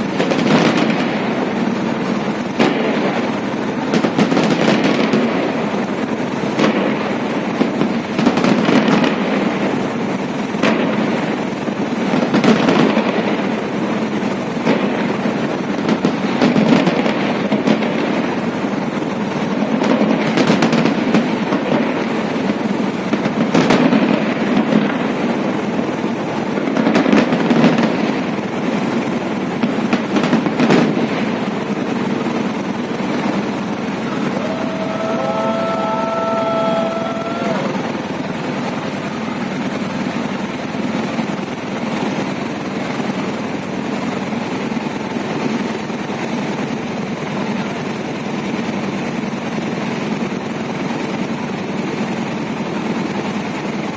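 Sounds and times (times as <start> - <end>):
fireworks bursting with bangs: 0.0 - 53.9
fireworks crackle and rumble: 0.0 - 53.9.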